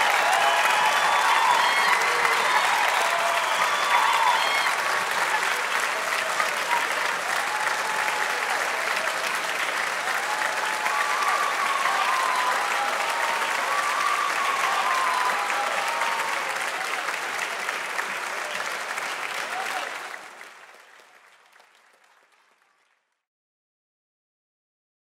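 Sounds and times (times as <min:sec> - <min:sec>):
cheers and whoops: 0:00.0 - 0:20.2
audience applauding: 0:00.0 - 0:23.2.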